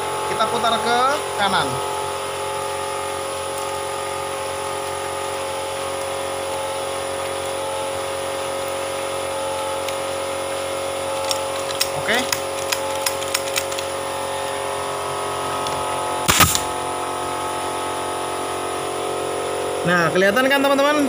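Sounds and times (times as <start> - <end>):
air compressor humming: 0.0 - 21.0.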